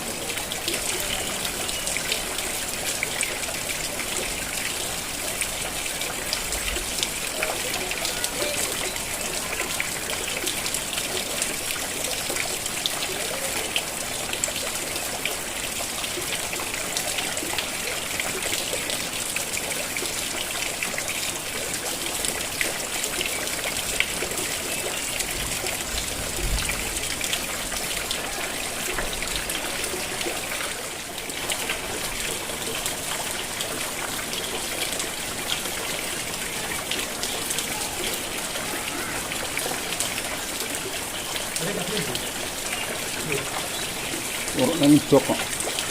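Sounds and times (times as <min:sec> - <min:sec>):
rain falling: 0:00.0 - 0:45.9
water trickling: 0:00.0 - 0:45.9.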